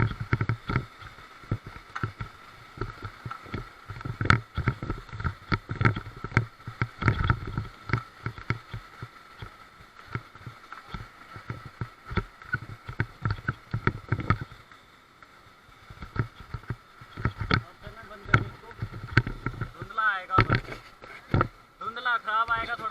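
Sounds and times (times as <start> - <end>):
raft and paddles knocking: 0.0 - 14.7, 15.8 - 22.9.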